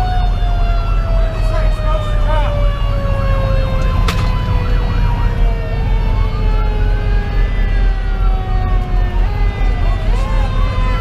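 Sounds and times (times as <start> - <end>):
diesel engine and road rumble: 0.0 - 11.0
electronic siren yelping and wailing: 0.0 - 11.0
mechanical siren winding down: 0.0 - 11.0.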